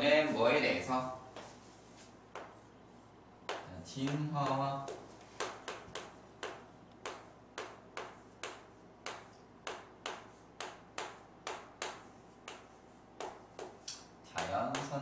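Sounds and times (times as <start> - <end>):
chalk clicking on chalkboard: 1.4 - 2.7, 3.5 - 15.0.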